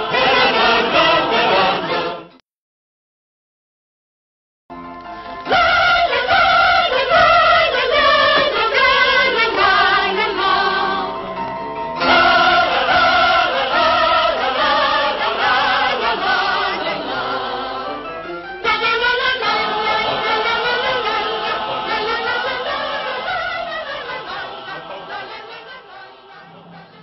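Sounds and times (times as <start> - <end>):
choir singing with music: 0.0 - 2.4, 5.0 - 27.0.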